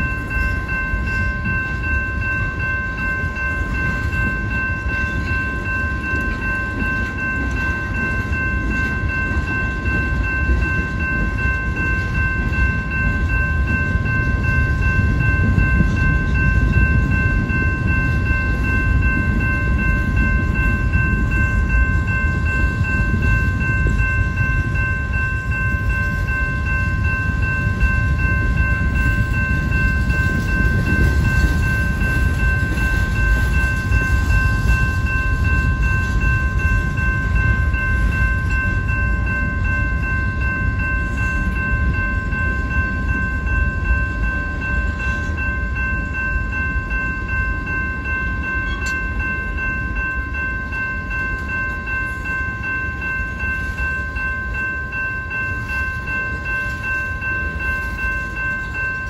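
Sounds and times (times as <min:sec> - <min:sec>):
crossing warning bell ringing: 0:00.0 - 0:59.0
freight train wheels rumbling: 0:00.0 - 0:59.0.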